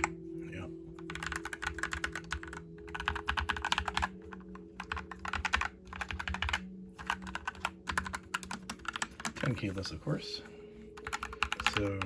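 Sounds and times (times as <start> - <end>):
mechanical keyboard typing: 1.0 - 9.6, 11.0 - 12.0.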